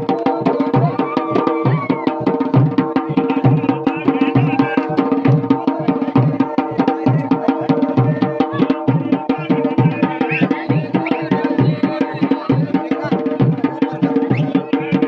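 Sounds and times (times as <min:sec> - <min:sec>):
deep bass drum beats: 0:00.0 - 0:15.0
folk drums playing fast rhythm: 0:00.0 - 0:15.0.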